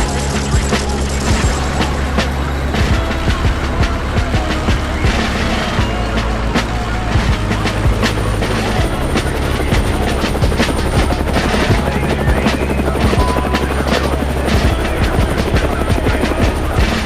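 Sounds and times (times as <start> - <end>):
background music with steady beat: 0.0 - 17.0
sustained low bass: 0.0 - 17.0.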